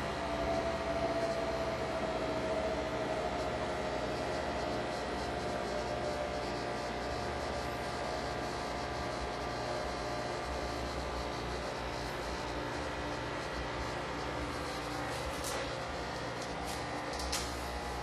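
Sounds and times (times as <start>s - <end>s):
low mechanical drone with tones: 0.0s - 18.0s.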